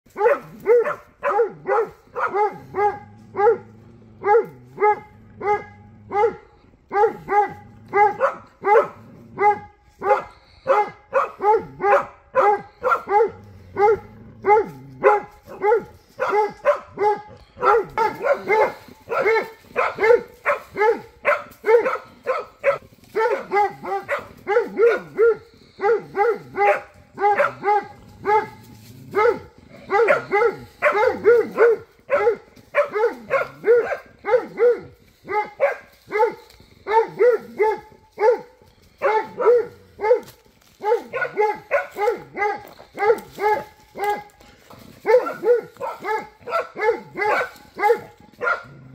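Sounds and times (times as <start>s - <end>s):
dog barking rapidly: 0.1s - 44.3s, 45.0s - 48.8s.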